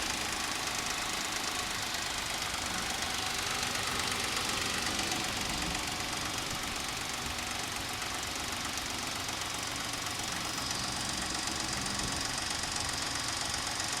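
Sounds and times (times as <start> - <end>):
car engine running: 0.0 - 14.0
rapid engine knock: 0.0 - 14.0.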